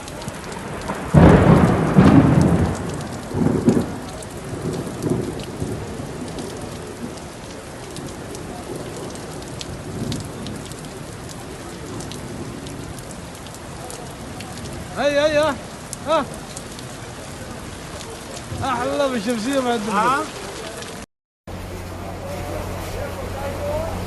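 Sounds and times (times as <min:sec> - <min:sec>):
thunderclap and rumbles: 0:00.0 - 0:19.9
steady rain falling: 0:00.0 - 0:24.0.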